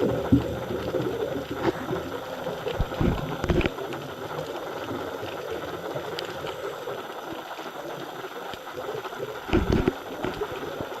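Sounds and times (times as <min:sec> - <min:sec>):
muffled underwater hiss: 0:00.0 - 0:11.0
rush of bubbles: 0:00.0 - 0:11.0.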